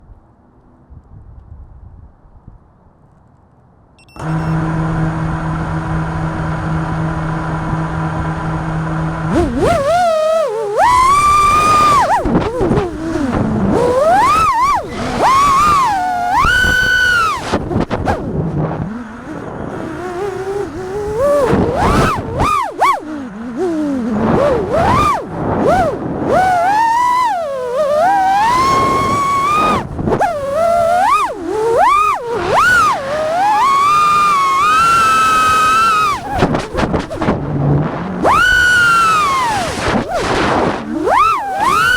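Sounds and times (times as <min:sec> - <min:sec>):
drone motors whining: 0:04.0 - 0:41.9.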